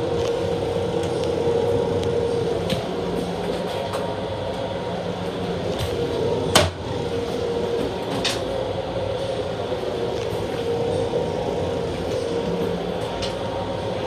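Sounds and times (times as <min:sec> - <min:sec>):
electric railcar interior hum: 0:00.0 - 0:14.0.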